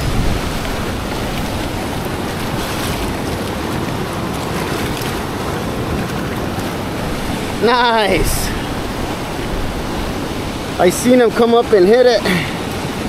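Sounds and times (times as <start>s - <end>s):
fast-flowing river water: 0.0s - 13.0s
wind buffeting microphone: 0.0s - 13.0s.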